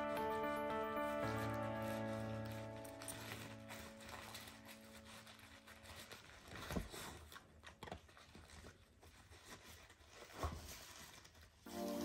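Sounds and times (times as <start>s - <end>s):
dog chewing paper and foil: 0.0s - 12.0s.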